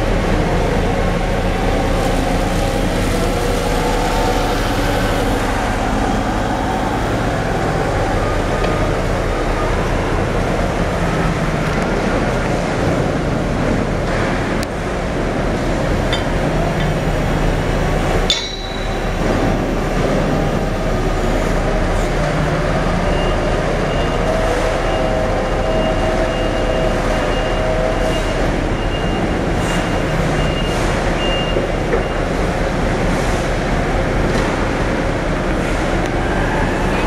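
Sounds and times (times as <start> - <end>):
heavy machinery rumble: 0.0 - 37.0.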